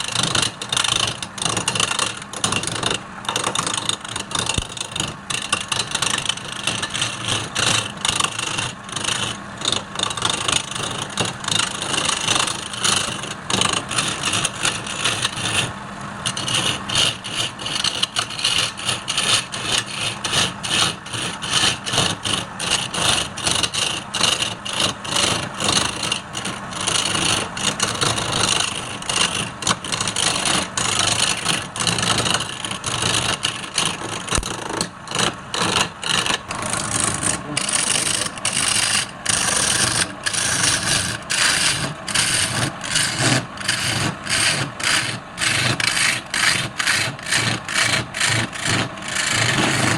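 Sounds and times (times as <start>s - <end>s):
lathe tool scraping wood: 0.0s - 49.9s.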